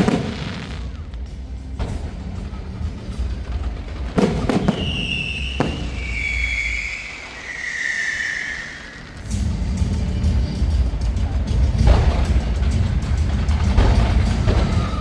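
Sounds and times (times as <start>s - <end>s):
firework bangs: 0.0s - 9.4s, 11.7s - 15.0s
whistling fireworks falling in pitch: 0.0s - 15.0s.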